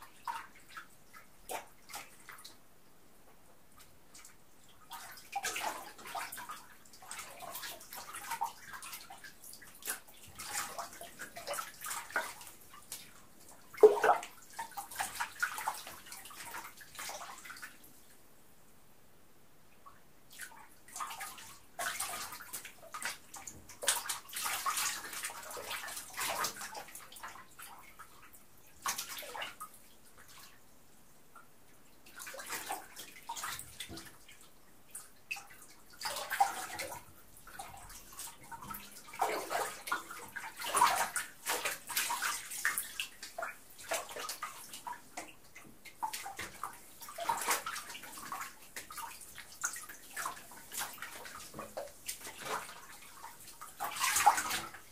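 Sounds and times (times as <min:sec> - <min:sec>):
water sloshing in bathtub: 0:00.0 - 0:02.7, 0:03.3 - 0:18.3, 0:19.8 - 0:54.9.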